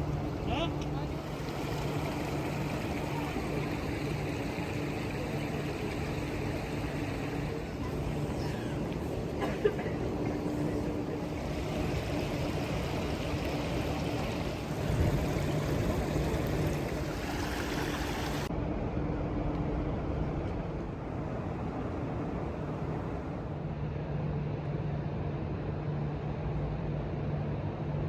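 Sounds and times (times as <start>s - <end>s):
low engine hum: 0.0s - 28.0s
outdoor ambience: 0.0s - 28.0s.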